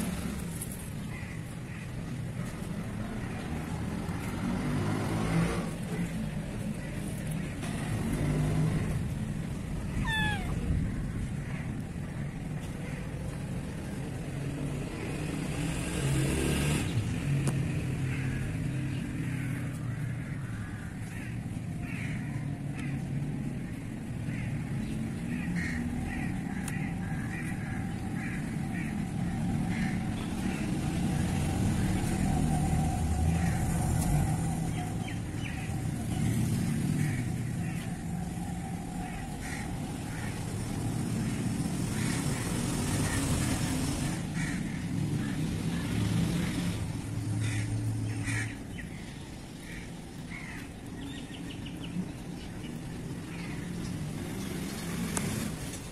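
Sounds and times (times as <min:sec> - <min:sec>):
low engine rumble: 0:05.5 - 0:15.2, 0:16.9 - 0:55.9.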